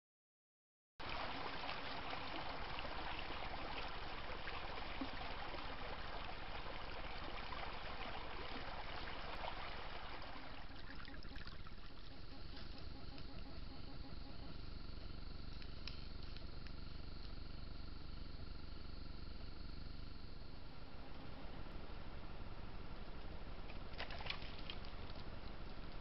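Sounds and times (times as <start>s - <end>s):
creek water trickling: 1.0s - 13.4s, 14.6s - 20.5s, 21.7s - 26.0s.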